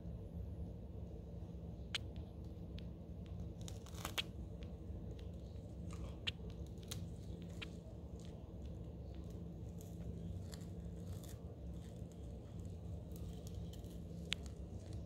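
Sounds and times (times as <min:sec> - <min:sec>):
steady low hum: 0:00.0 - 0:15.0
soft crunching clicks: 0:02.0 - 0:15.0.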